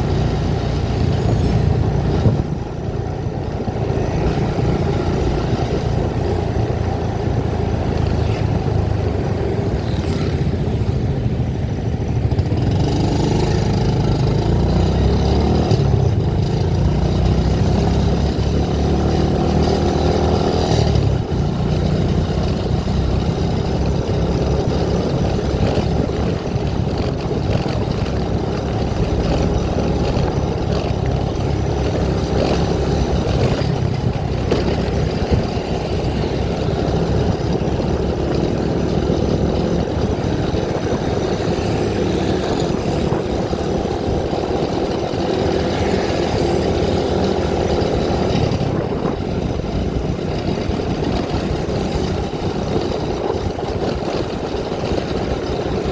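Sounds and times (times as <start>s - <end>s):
road and wind noise: 0.0s - 55.9s
vehicle engine running: 0.0s - 55.9s.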